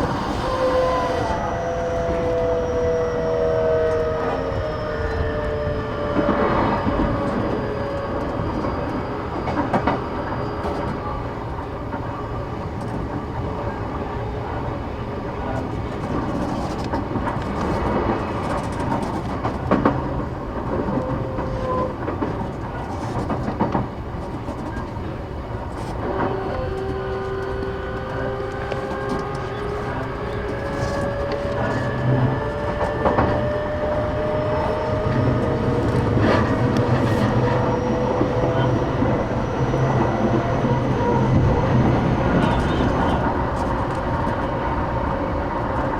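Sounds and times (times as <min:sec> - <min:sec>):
rail joint clicks: 0:00.0 - 0:45.9
train motor whine: 0:00.0 - 0:45.9
train wheels rumbling on rail: 0:00.0 - 0:45.9.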